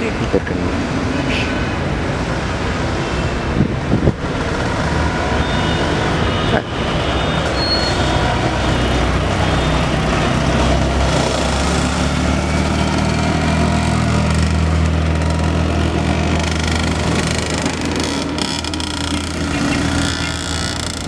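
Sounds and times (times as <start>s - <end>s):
scooters and small cars passing: 0.0s - 21.0s.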